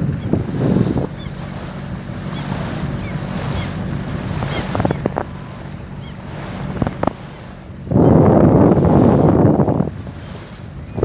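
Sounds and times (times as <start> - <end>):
motorboat engine hum: 0.0 - 11.0
water rushing along hull: 0.0 - 11.0
wind on microphone: 0.0 - 11.0.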